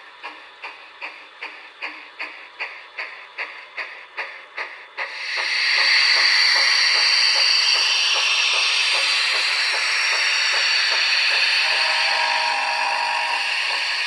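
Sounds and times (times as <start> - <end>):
loud steady steam hiss: 0.0 - 14.0
model steam locomotive chuffs: 0.0 - 14.0.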